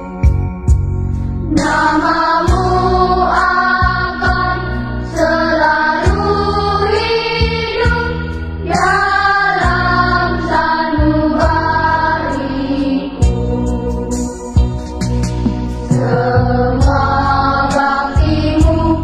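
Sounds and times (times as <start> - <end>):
song with sung vocals: 1.5 - 14.5, 15.4 - 19.0.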